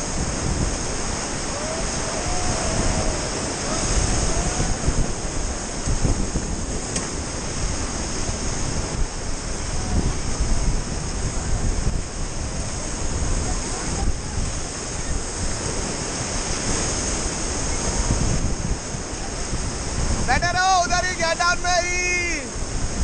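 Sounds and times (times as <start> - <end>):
wind buffeting microphone: 0.0 - 21.7, 22.5 - 23.0
whitewater rushing: 0.0 - 23.0.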